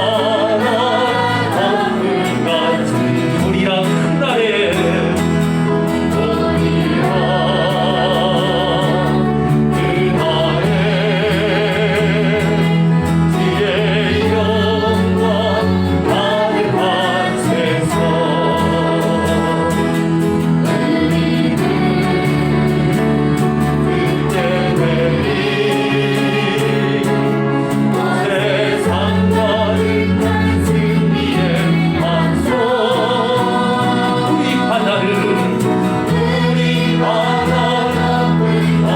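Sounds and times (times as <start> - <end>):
group singing praise song: 0.0 - 38.9
instrumental accompaniment: 0.0 - 38.9.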